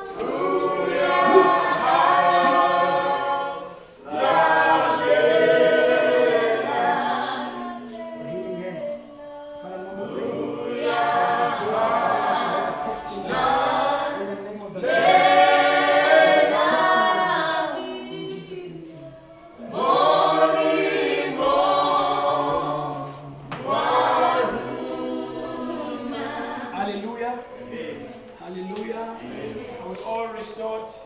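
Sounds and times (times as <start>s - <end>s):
voices singing unaccompanied: 0.0s - 31.0s.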